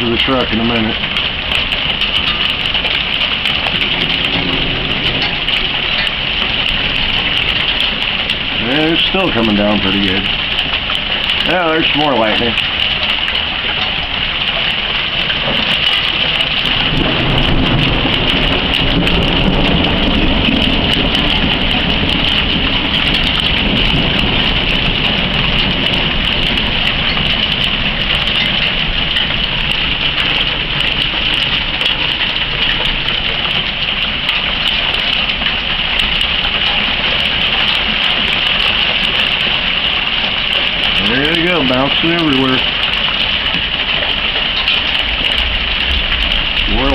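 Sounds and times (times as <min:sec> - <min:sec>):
heavy rain hiss: 0:00.0 - 0:46.9.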